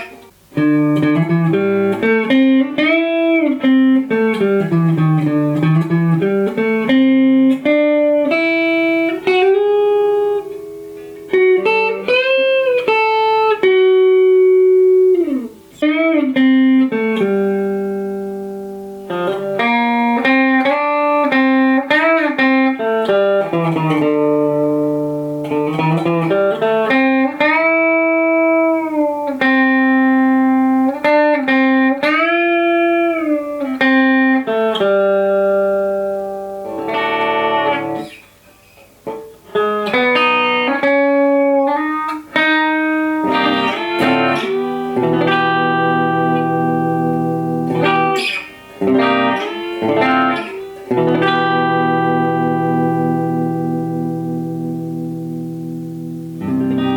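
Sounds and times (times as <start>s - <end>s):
electric guitar lead lines: 0.0s - 56.9s.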